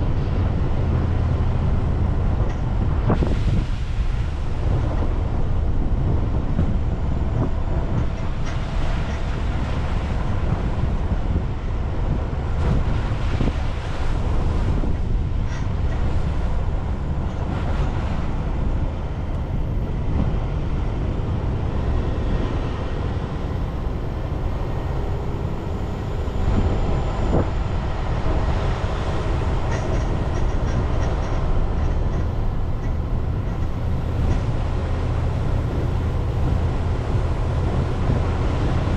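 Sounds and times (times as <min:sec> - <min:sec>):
road noise hiss: 0:00.0 - 0:38.9
tyres and engine rumble: 0:00.0 - 0:38.9.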